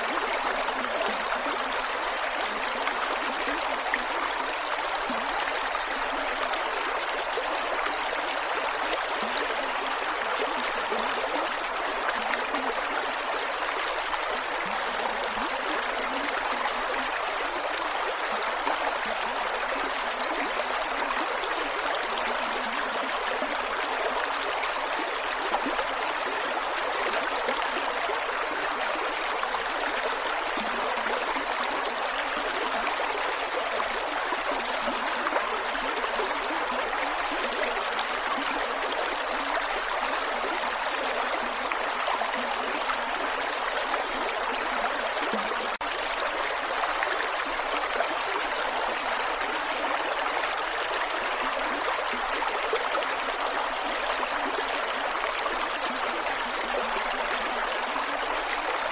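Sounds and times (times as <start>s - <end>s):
creek water flowing over rocks: 0.0s - 58.9s.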